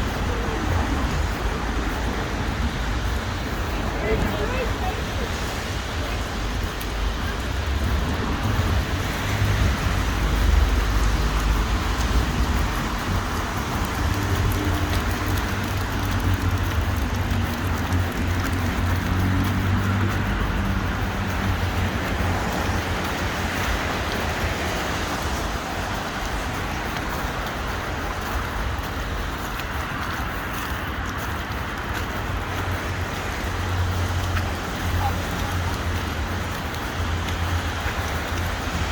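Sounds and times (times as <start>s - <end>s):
cars passing: 0.0s - 38.9s
road noise: 0.0s - 38.9s.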